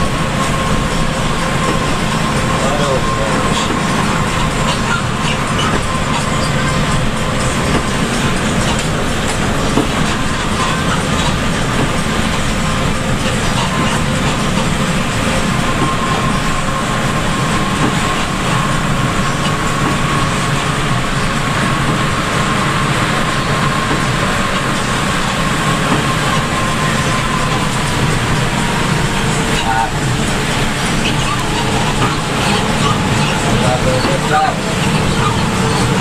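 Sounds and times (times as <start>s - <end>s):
bus engine and tyres on wet road: 0.0s - 36.0s
thin steady whine: 0.0s - 36.0s.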